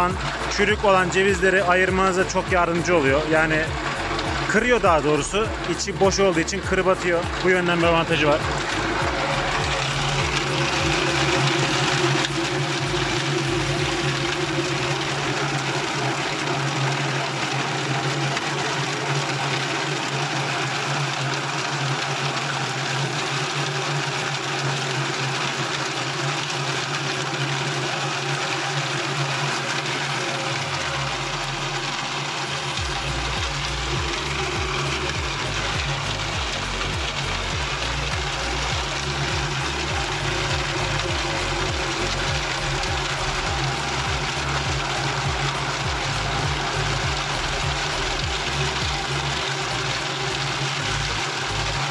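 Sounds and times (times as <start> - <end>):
hulling machine drum churning: 0.0 - 51.9.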